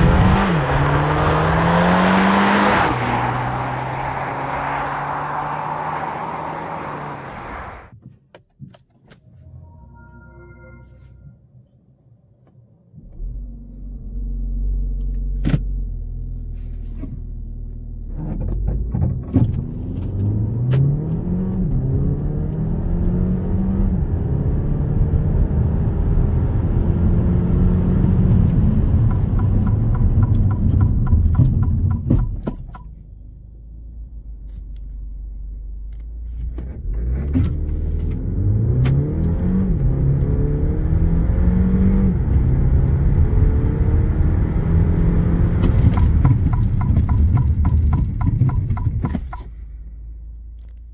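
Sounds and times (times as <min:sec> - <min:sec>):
car engine accelerating: 0:00.0 - 0:07.9, 0:13.0 - 0:32.8, 0:34.0 - 0:49.6.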